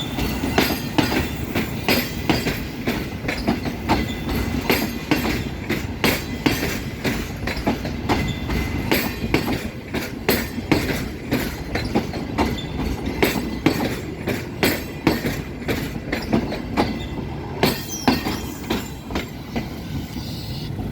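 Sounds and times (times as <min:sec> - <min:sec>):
train rumble: 0:00.0 - 0:20.9
train wheels clacking on rails: 0:00.0 - 0:20.9.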